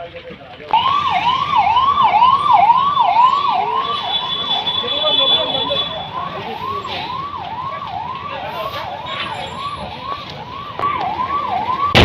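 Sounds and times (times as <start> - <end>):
fire engine siren yelping: 0.7 - 12.0.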